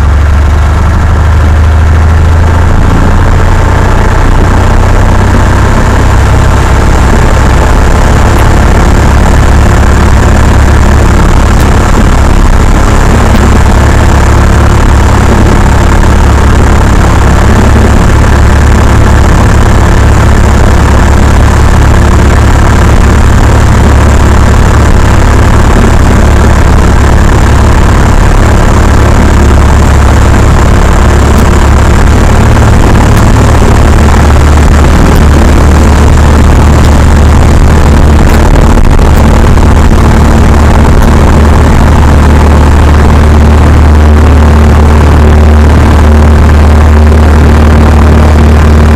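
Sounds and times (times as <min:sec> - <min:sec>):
propeller plane engine droning: 0:00.0 - 0:48.9.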